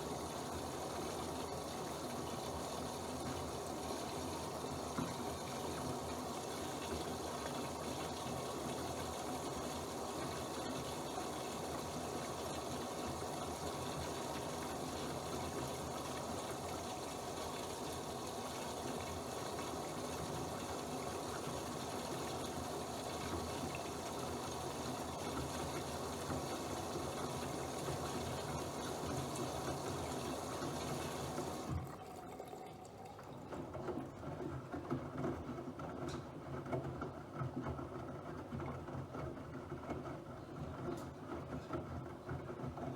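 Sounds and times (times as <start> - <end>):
washing machine noise: 0.0 - 42.9
water rushing into washing machine: 0.0 - 42.9.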